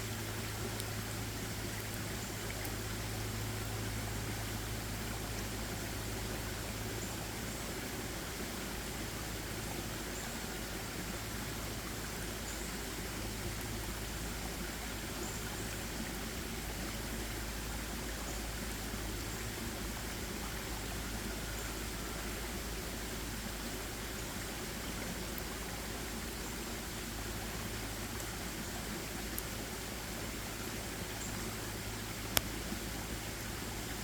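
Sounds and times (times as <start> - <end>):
stream flowing: 0.0 - 34.0.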